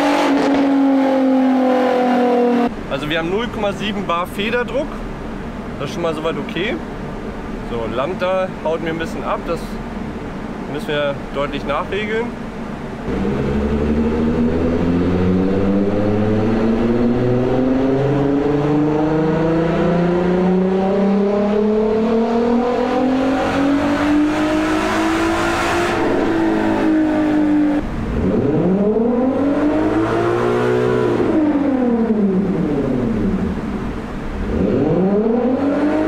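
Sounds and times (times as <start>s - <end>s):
car engine revving under load: 0.0s - 36.0s.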